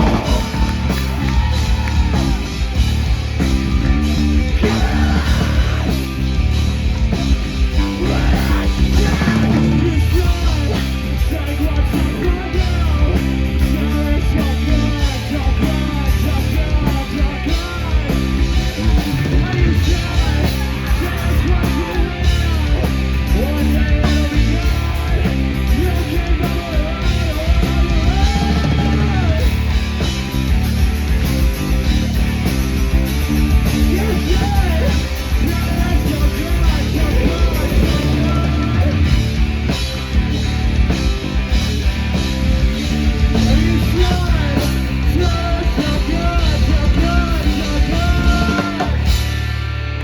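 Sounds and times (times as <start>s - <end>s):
punk rock music: 0.0s - 50.0s
yelled vocals: 0.0s - 50.0s.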